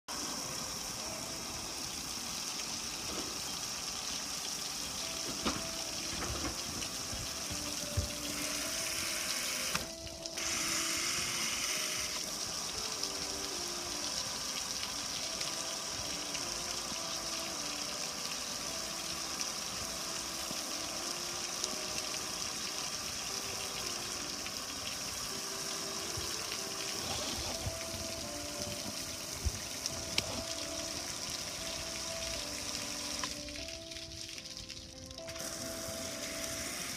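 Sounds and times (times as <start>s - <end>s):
hose water spraying on metal: 0.1s - 36.9s.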